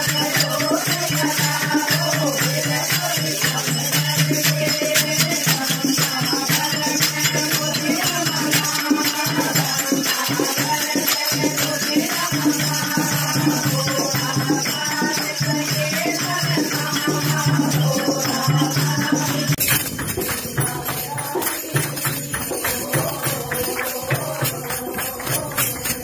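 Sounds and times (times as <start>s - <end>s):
rattling percussion: 0.0s - 26.0s
rhythmic hand clapping: 0.0s - 26.0s
women singing together: 0.0s - 26.0s.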